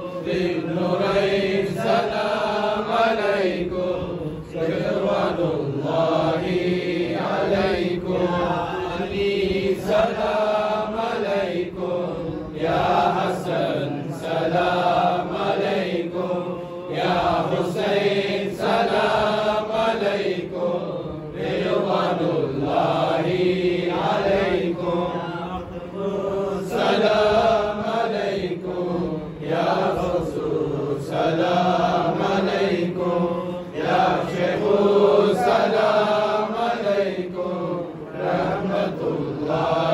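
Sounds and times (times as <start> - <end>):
men chanting together: 0.0 - 39.9.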